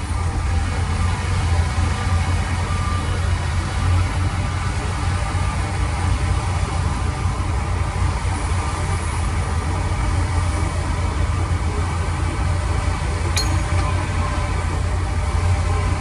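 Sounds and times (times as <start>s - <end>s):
diesel engine low rumble: 0.0s - 16.0s.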